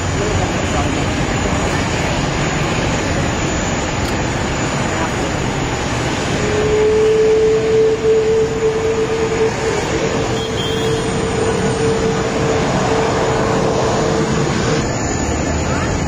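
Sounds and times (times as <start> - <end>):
aircraft rumble and whine: 0.0 - 16.0.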